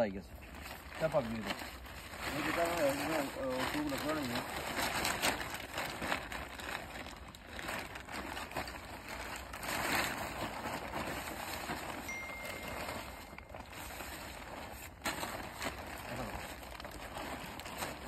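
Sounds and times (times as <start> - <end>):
tent fabric rustling: 0.4 - 18.0.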